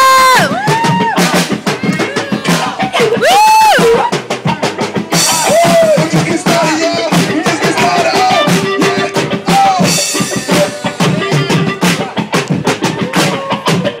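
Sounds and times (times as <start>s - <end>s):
beatboxing through a microphone: 0.0s - 14.0s.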